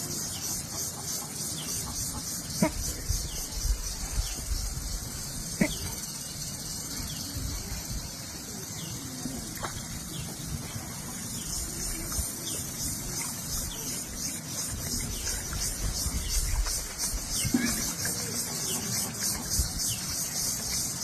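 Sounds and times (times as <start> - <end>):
steady high hiss: 1.4 - 21.0.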